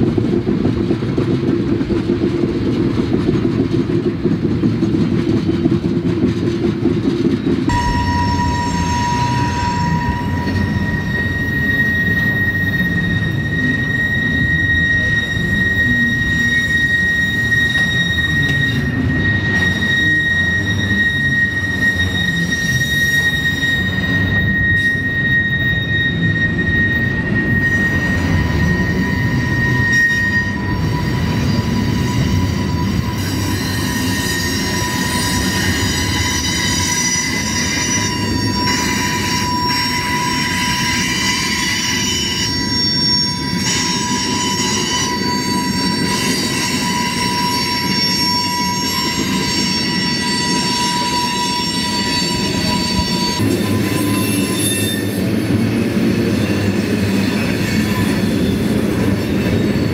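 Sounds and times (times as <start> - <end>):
rumble of passing rail cars: 0.0 - 59.9
train wheels squealing: 0.0 - 59.9.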